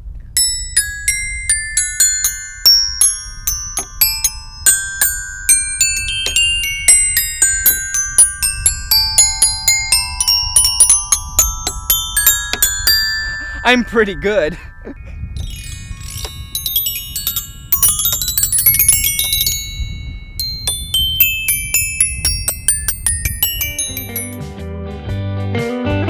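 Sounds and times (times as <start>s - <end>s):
xylophone notes: 0.4s - 24.5s.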